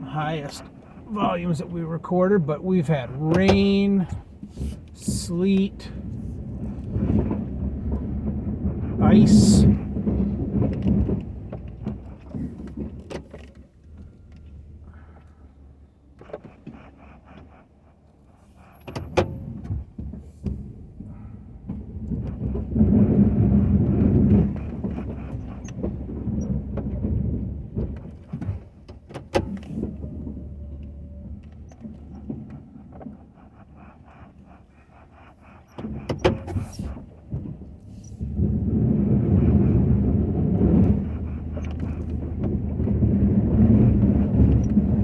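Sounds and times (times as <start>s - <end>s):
truck engine rumble: 0.0s - 45.0s.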